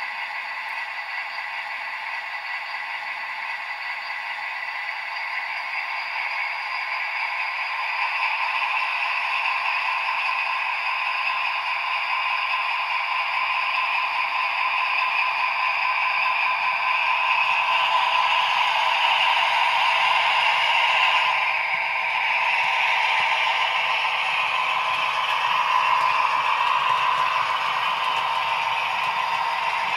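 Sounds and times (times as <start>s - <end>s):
model locomotive running: 0.0s - 29.9s.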